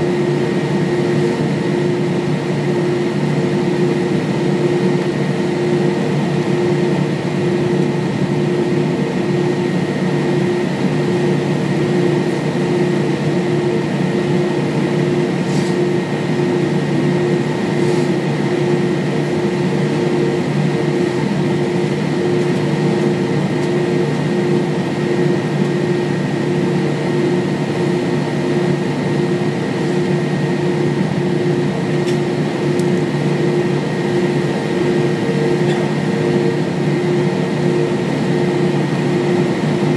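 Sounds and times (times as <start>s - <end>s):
cabin air conditioning: 0.0s - 39.9s
jet engines idling: 0.0s - 39.9s.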